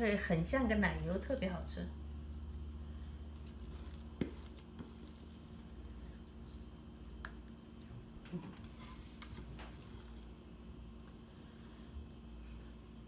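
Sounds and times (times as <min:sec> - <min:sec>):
mashed potatoes squishing: 0:00.2 - 0:13.0.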